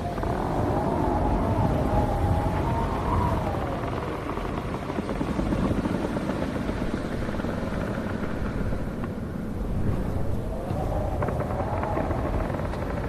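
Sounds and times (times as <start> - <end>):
low rumble of wind: 0.0 - 13.0
wind whistling: 0.0 - 13.0.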